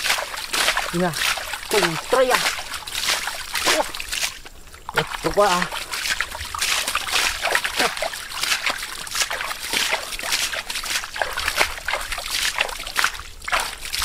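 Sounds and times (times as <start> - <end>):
hands splashing in muddy water: 0.0 - 14.0.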